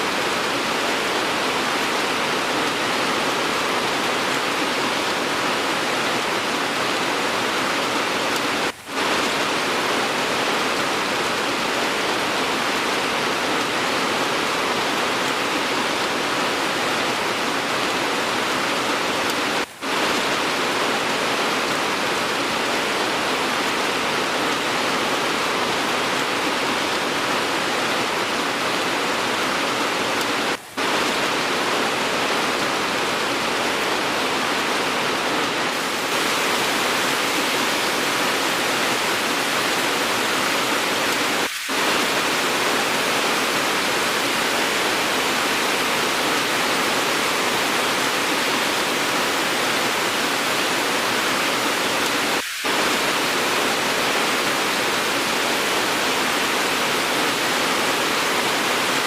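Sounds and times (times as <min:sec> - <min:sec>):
dense rain hiss: 0:00.0 - 0:59.0.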